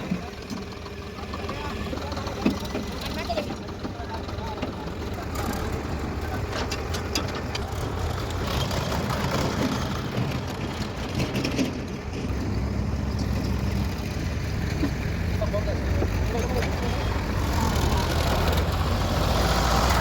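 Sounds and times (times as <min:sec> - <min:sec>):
diesel engines rumbling: 0:00.0 - 0:20.0.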